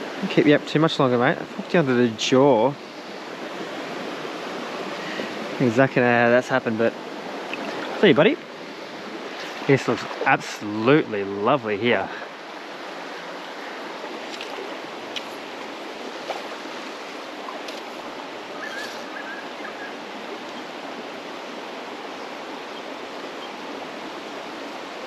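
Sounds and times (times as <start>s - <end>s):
creek water running over rocks: 0.0s - 25.0s.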